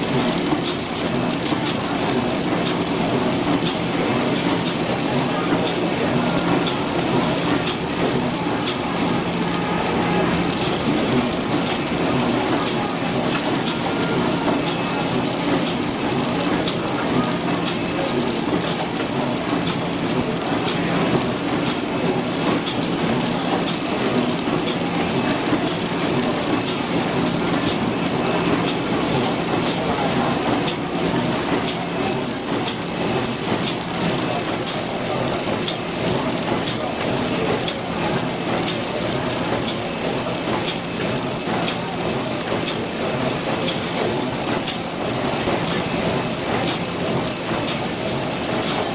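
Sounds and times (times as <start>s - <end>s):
packing machine running: 0.0s - 48.9s.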